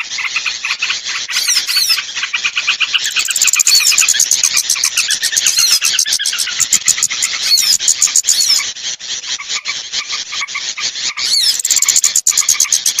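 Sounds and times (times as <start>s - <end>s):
songbirds chirping rapidly: 0.0s - 13.0s.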